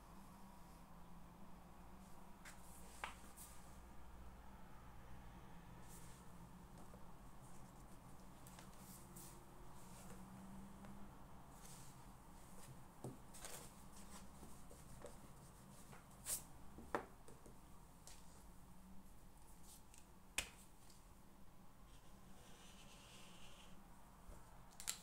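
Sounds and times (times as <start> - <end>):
faint room hum: 0.0 - 25.0.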